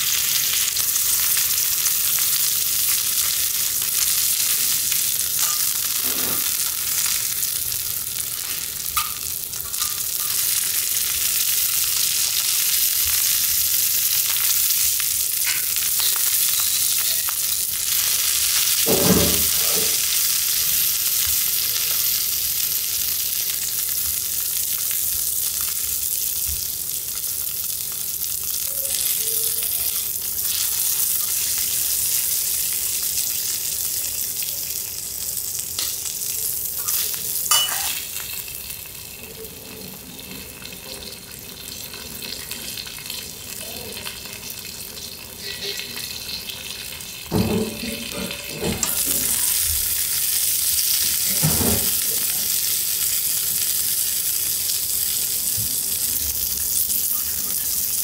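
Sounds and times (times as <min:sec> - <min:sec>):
food sizzling on griddle: 0:00.0 - 0:58.0.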